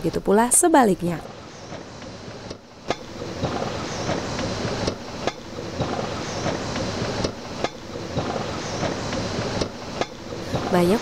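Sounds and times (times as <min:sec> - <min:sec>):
coaster cart rattling on rails: 0:00.0 - 0:11.0.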